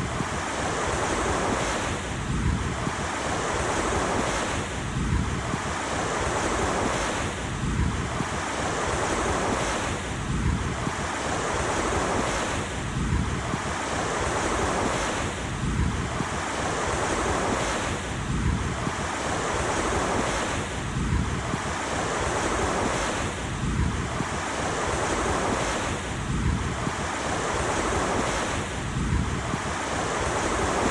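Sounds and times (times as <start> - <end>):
ocean surf washing onto shore: 0.0 - 30.9.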